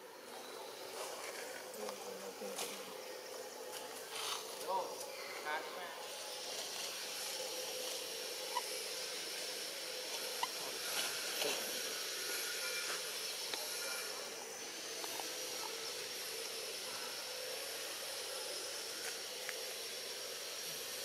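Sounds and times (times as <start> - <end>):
forest insects droning: 0.0 - 21.0.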